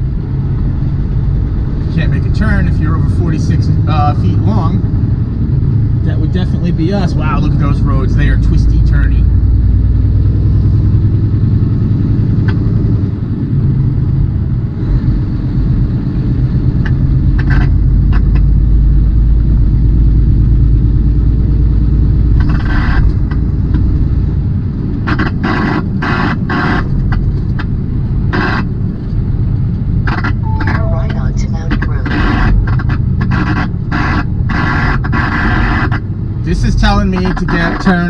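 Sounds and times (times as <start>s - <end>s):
road noise: 0.0s - 38.0s
truck diesel engine rumble: 0.0s - 38.0s.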